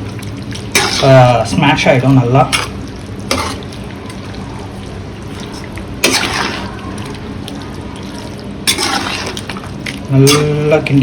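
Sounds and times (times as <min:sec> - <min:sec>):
thick gravy bubbling in a pot: 0:00.0 - 0:11.0
spoon stirring in a pot: 0:00.1 - 0:11.0.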